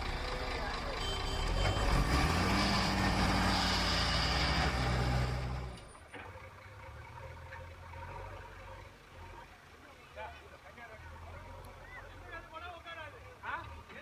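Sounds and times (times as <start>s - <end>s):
heavy diesel engine under load: 0.0s - 14.0s.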